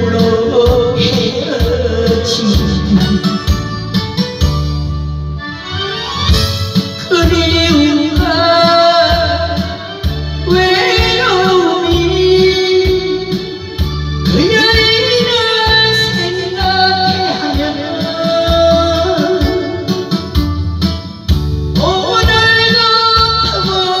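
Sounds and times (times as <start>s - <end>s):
woman singing into a microphone: 0.0s - 3.7s, 6.8s - 20.4s, 21.8s - 24.0s
karaoke backing track: 0.0s - 24.0s.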